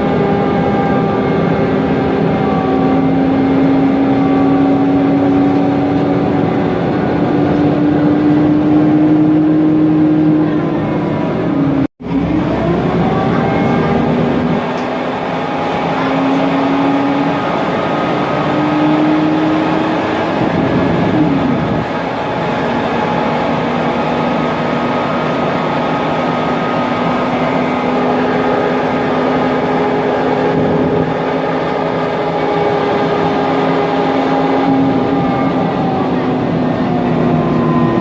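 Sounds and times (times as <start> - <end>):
bus engine and cooling fan: 0.0 - 38.0
transmission whine: 0.0 - 38.0.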